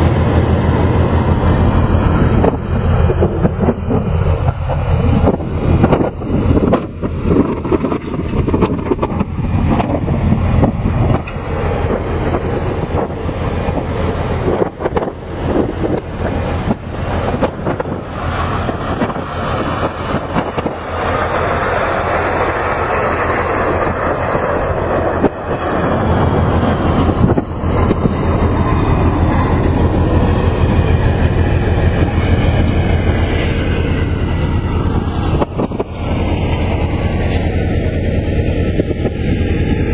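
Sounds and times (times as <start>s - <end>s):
heavy machinery rumbling: 0.0s - 39.9s.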